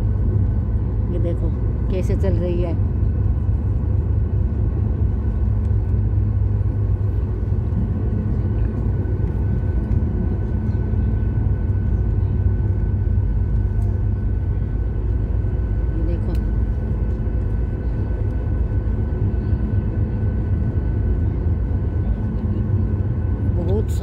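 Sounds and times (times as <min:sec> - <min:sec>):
jet engine low drone: 0:00.0 - 0:24.0
thin high engine whine: 0:00.0 - 0:24.0.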